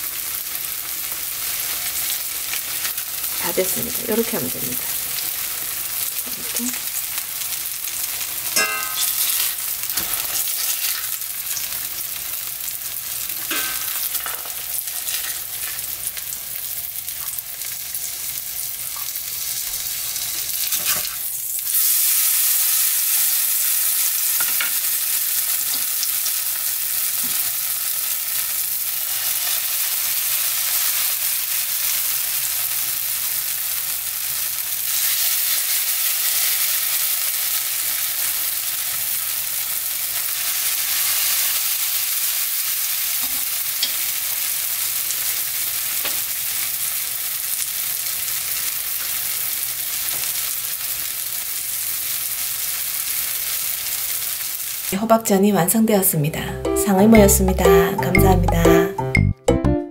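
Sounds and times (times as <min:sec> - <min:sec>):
batter sizzling in hot oil: 0:00.0 - 0:55.0.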